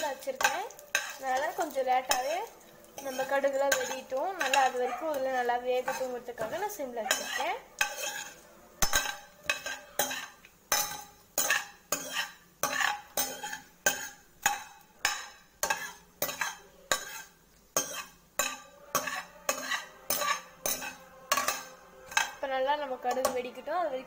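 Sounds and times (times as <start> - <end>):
metal ladle scraping a pan: 0.0 - 23.6
spices sizzling in hot oil: 0.0 - 24.0.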